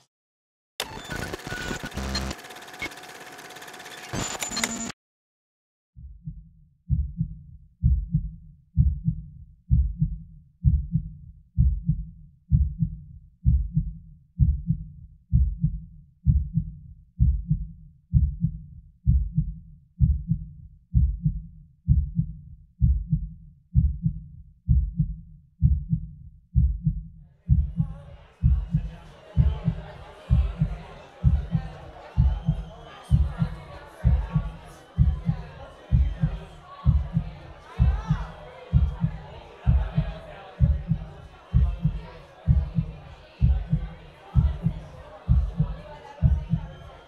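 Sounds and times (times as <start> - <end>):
heartbeat thumping: 6.0 - 46.8.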